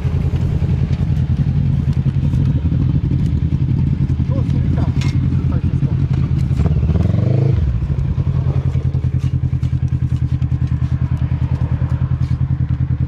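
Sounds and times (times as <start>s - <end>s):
quad engine idling and revving: 0.0s - 13.0s.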